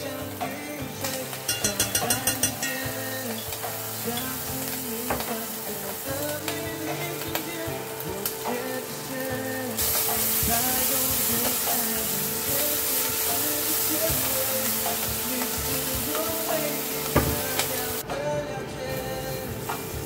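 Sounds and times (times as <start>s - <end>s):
oil sizzling in a pot: 0.0s - 18.1s, 19.0s - 20.0s
background music: 0.0s - 20.0s.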